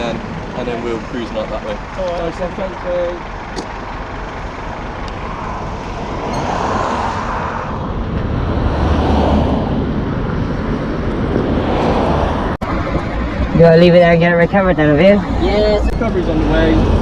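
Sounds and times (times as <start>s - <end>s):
vehicles passing on road: 0.0s - 17.0s.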